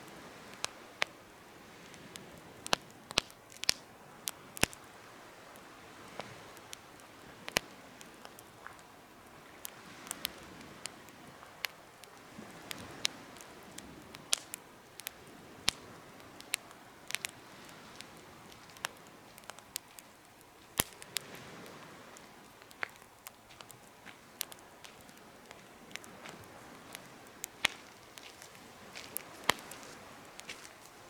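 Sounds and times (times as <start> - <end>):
campfire crackling and popping: 0.0 - 31.0
soft rush of flames: 0.0 - 31.0.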